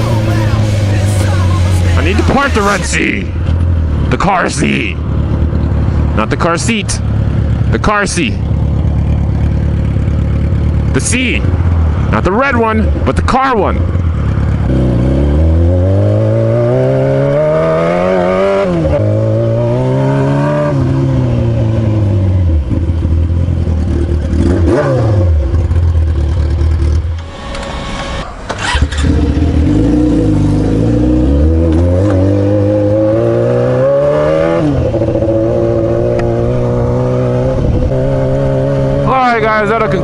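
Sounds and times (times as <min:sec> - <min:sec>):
loud motorcycle engine revving: 0:00.0 - 0:40.0.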